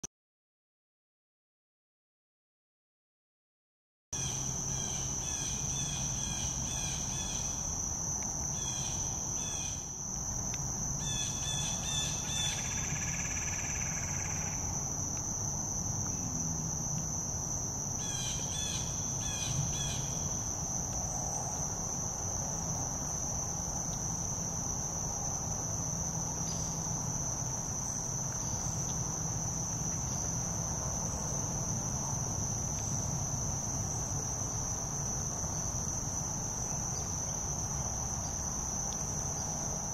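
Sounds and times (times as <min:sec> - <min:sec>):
high-pitched insect drone: 0:04.2 - 0:39.9
insect chirping calls: 0:04.2 - 0:39.9.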